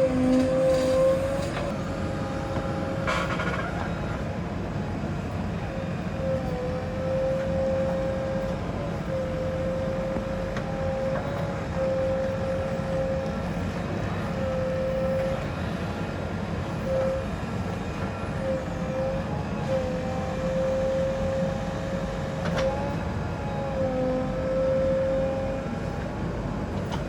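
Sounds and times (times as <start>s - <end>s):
diesel engine running: 0.0s - 27.0s
engine whine: 0.0s - 27.0s.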